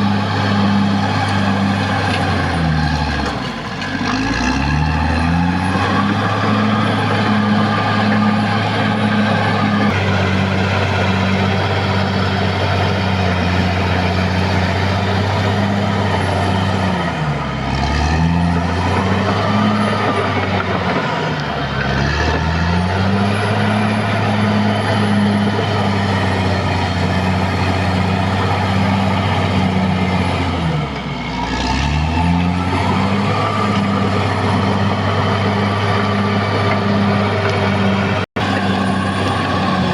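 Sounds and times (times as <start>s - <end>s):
bulldozer diesel engine revving: 0.0s - 39.9s.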